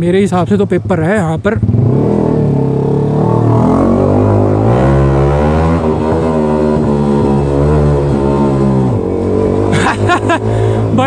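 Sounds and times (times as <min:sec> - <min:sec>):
motorcycle engine pulling away: 0:01.0 - 0:11.0.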